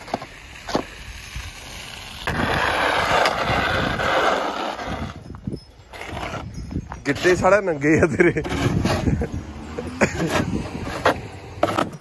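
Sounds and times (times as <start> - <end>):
snow shovel scraping pavement: 0.0 - 12.0.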